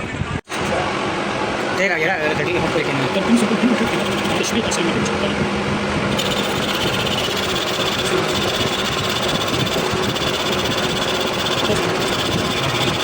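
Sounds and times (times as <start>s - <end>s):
high machine whine: 0.0s - 13.0s
machinery rapid rattle: 1.9s - 13.0s.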